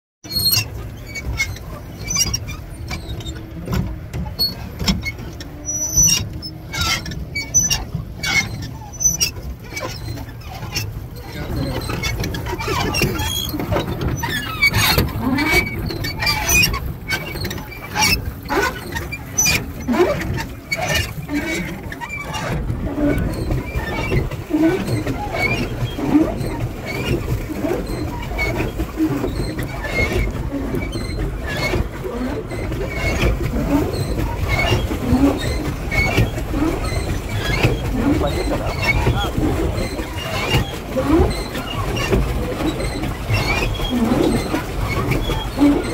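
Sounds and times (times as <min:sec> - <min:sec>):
pedal drive squeaking and creaking: 0:00.2 - 0:45.9.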